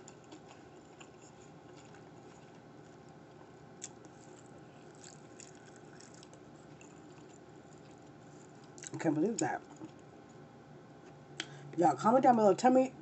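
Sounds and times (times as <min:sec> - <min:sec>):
faint chewing: 0:00.0 - 0:11.6.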